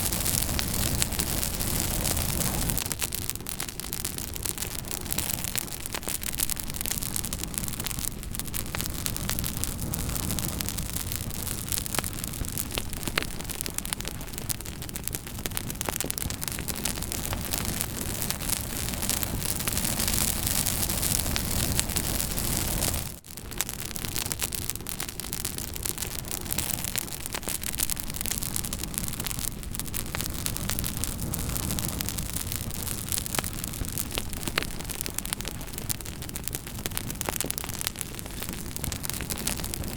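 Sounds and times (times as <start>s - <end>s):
fire rushing hiss: 0.0s - 23.2s, 24.2s - 39.9s
campfire wood crackling and popping: 0.0s - 39.9s.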